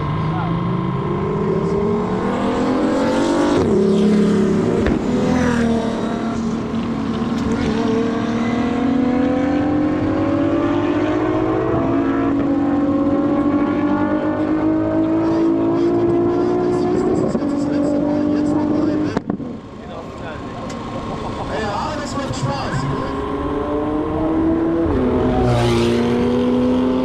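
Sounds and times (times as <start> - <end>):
car engine at full throttle: 0.0 - 27.0.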